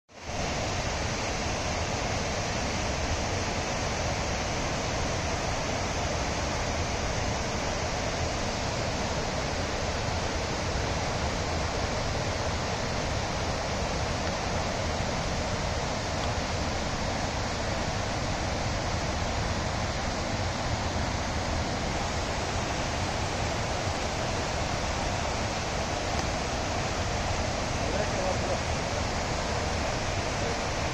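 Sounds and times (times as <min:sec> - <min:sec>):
rush of falling water: 0:00.1 - 0:30.9.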